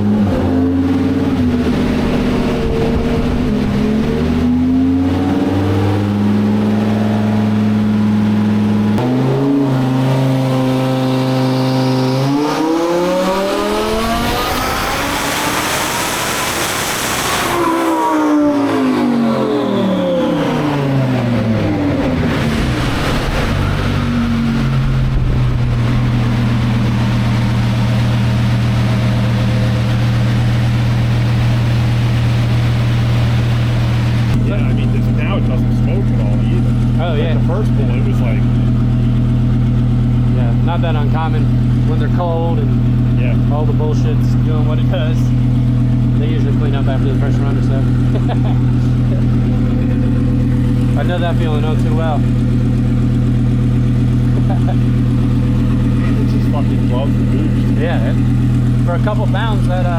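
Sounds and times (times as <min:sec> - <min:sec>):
sports car engine revving: 0:00.0 - 0:59.9.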